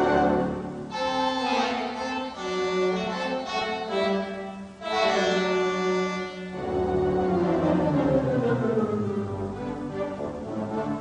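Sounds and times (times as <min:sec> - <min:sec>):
slow bowed string music: 0:00.0 - 0:11.0.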